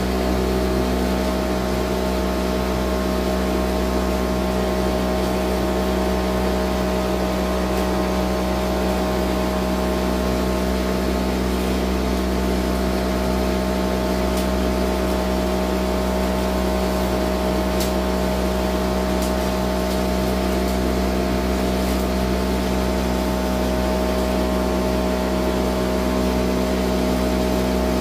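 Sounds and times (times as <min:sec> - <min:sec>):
gas burner hissing: 0:00.0 - 0:28.0
motor humming: 0:00.0 - 0:28.0.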